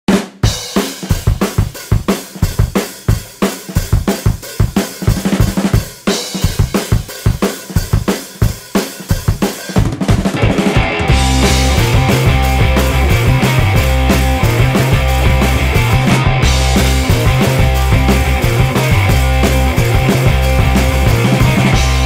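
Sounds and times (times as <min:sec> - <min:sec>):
rock drum kit beat: 0:00.1 - 0:22.0.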